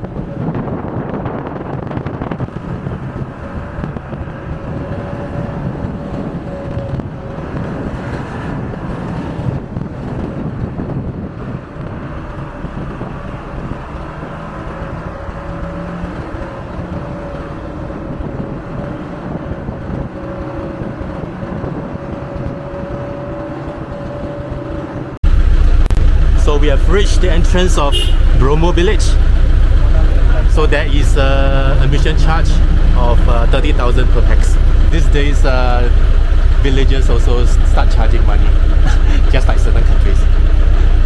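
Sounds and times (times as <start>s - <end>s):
minibus engine and road noise: 0.0s - 41.0s.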